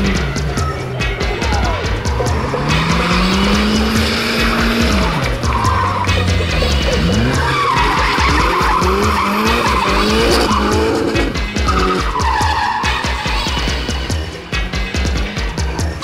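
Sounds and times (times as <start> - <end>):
car engine revving: 0.0 - 16.0
music with steady beat: 0.0 - 16.0
tyres squealing: 0.0 - 16.0.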